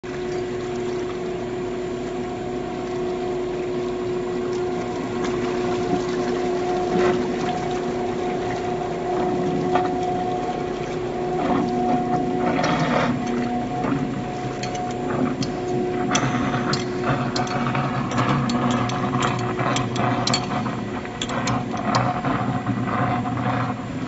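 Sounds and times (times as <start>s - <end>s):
steady motor hum: 0.0s - 24.0s.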